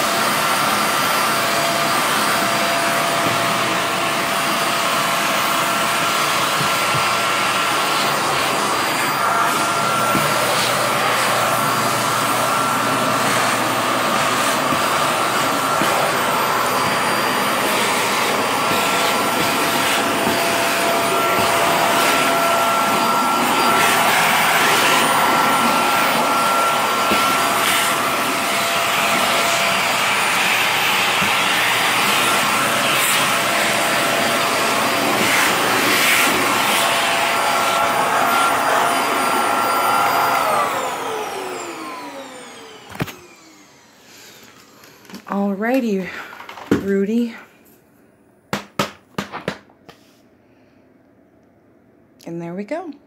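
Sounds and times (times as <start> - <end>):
vacuum cleaner motor whine: 0.0 - 45.5.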